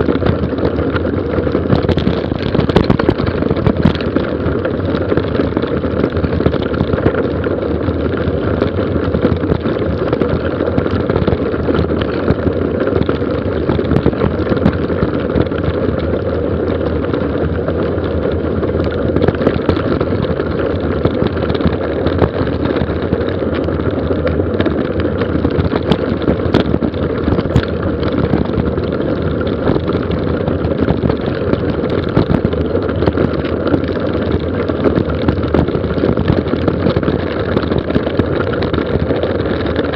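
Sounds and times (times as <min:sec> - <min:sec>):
bike rattling with small clicks: 0:00.0 - 0:39.9
bike tyres rumbling over gravel: 0:00.0 - 0:39.9
wind rushing over microphone: 0:00.0 - 0:39.9.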